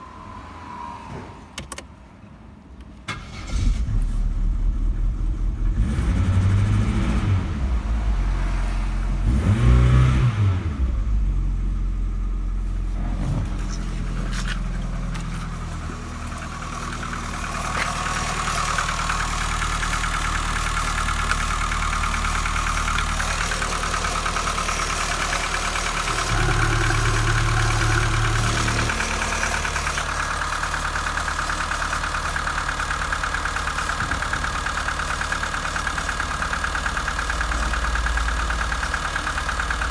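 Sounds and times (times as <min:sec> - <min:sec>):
car engine starting and revving: 0:03.1 - 0:39.9.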